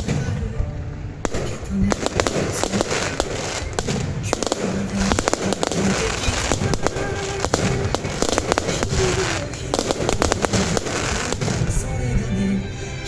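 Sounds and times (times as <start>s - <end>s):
fireworks bangs and crackles: 0.0s - 12.4s.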